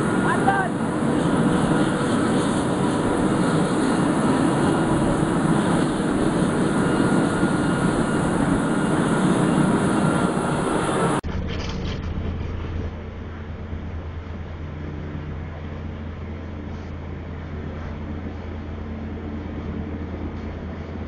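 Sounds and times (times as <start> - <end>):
faint steady whine: 0.0 - 21.0
helicopter turbine and rotor noise: 0.0 - 21.0.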